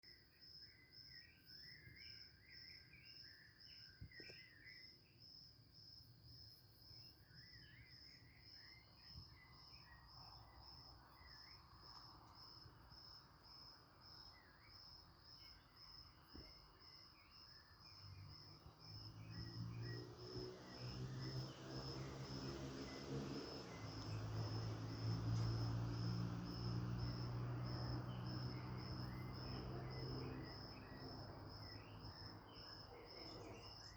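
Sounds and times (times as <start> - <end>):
cricket chirping: 0.0 - 33.9.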